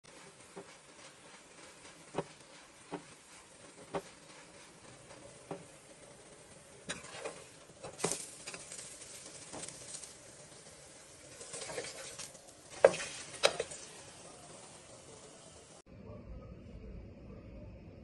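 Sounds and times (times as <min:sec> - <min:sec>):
flatbread sizzling in oil: 0:00.1 - 0:15.8.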